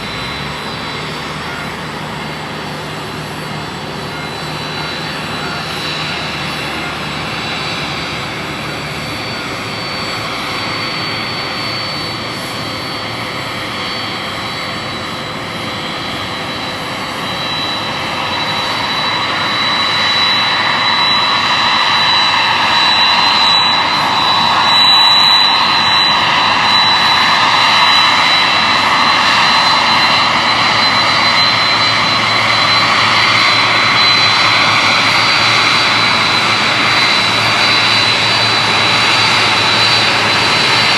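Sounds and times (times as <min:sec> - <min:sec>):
jet engines rushing and whining: 0:00.0 - 0:40.9.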